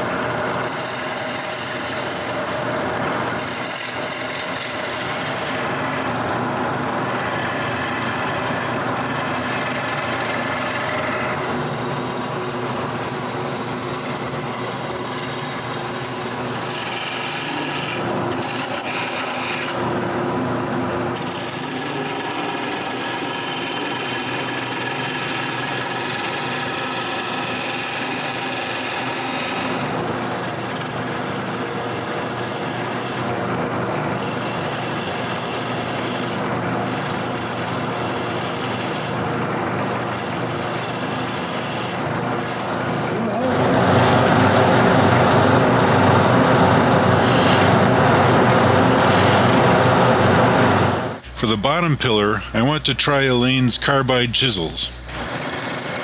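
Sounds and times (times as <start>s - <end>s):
gouge cutting spinning wood: 0.0s - 20.2s, 21.2s - 33.3s, 34.2s - 51.4s, 55.0s - 56.0s
wood lathe humming: 0.0s - 33.3s, 34.2s - 56.0s.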